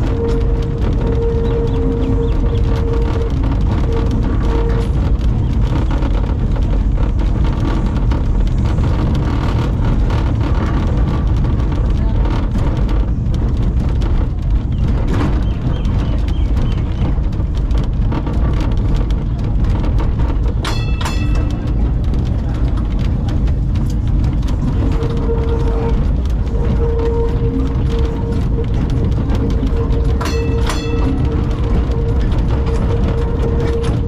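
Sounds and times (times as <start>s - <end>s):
light rattling and clicking: 0.0s - 34.0s
tram wheels rumbling on rail: 0.0s - 34.0s.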